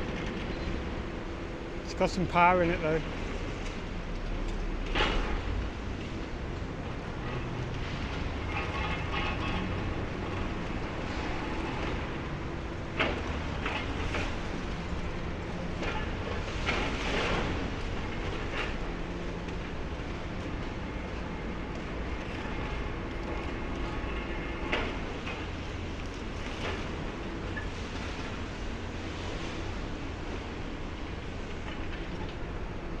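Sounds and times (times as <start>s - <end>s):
excavator engine rumble: 0.0s - 33.0s.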